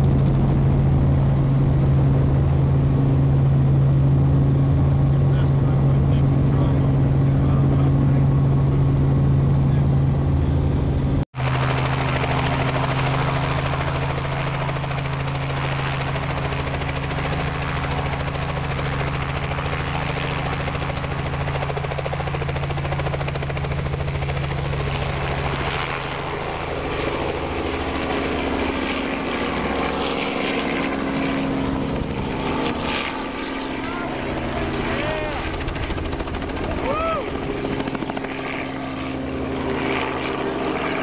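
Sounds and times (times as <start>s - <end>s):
helicopter rotor hum: 0.0s - 41.0s.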